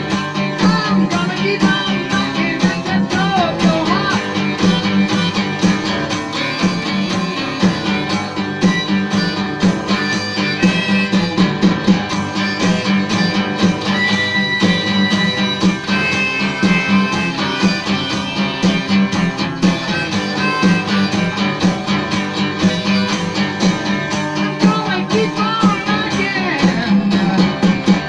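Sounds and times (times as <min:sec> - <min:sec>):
rockabilly guitar over steady beat: 0:00.0 - 0:28.0.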